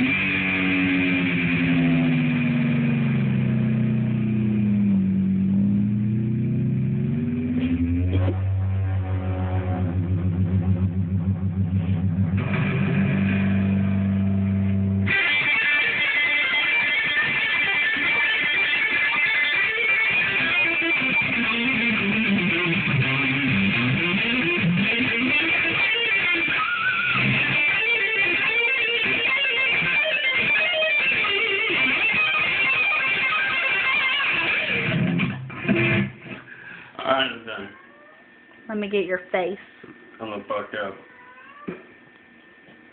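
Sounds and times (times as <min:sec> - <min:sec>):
electric guitar shredding: 0:00.0 - 0:36.9.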